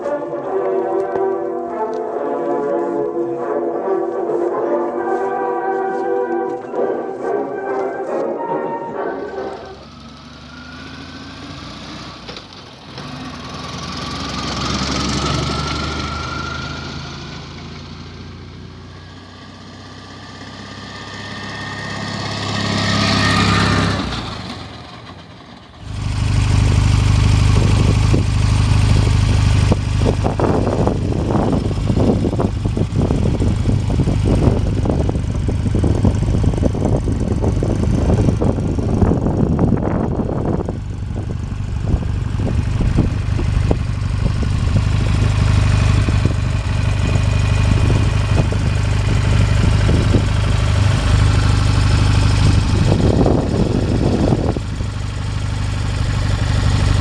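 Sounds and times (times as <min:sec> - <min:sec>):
motorcycles passing: 0:05.6 - 0:57.0
motorcycle engine running close by: 0:09.5 - 0:57.0.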